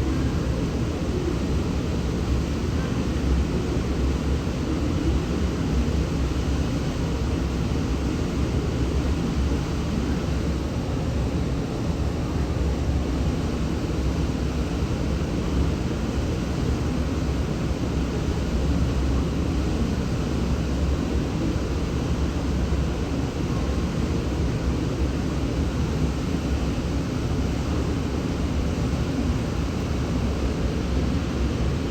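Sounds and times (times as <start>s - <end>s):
railway station ambience: 0.0s - 31.9s.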